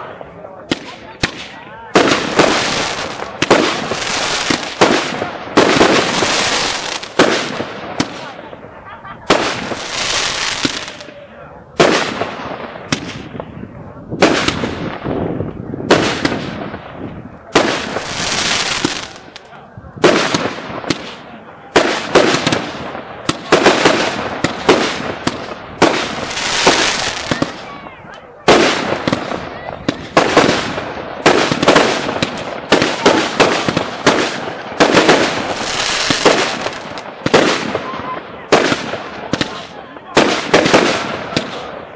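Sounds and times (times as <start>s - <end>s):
firework bangs: 0.0s - 11.2s, 11.8s - 41.9s.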